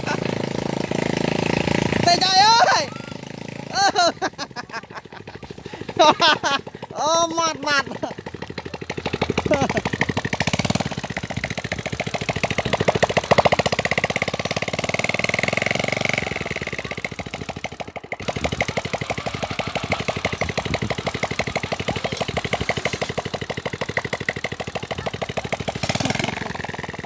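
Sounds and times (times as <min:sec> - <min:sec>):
engine puttering: 0:00.0 - 0:27.0.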